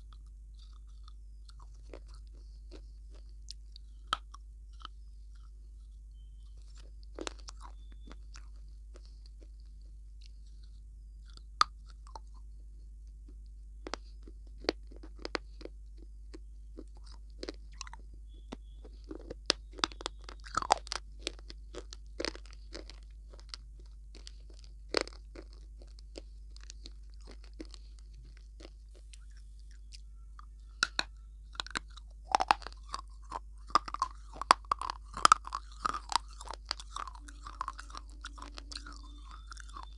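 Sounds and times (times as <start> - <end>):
crunching bites: 0.0 - 12.4, 13.3 - 39.9
chewing: 0.0 - 39.9.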